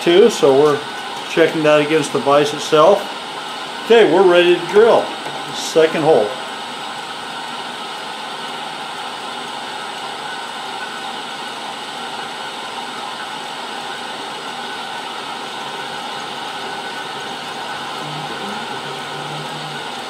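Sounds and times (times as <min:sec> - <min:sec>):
milling machine drilling: 0:00.2 - 0:08.9, 0:11.4 - 0:20.0.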